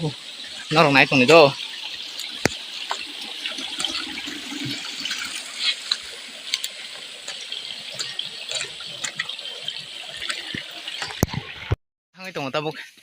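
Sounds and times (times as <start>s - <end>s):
small water splashes: 0.0s - 11.8s
water running over rocks: 0.0s - 11.8s.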